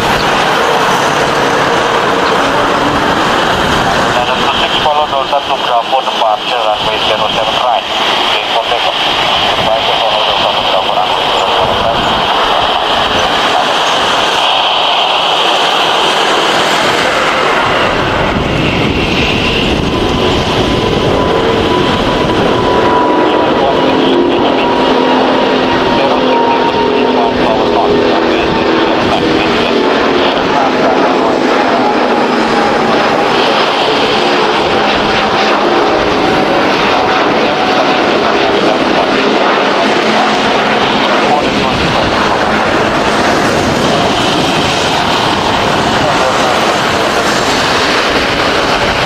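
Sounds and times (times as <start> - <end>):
jet engines roaring with whine: 0.0 - 49.0.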